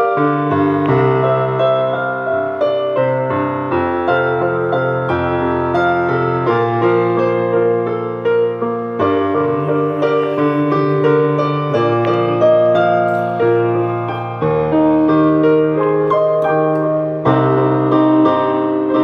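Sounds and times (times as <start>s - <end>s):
digital piano chords: 0.0s - 19.0s
piano bass line: 0.0s - 19.0s.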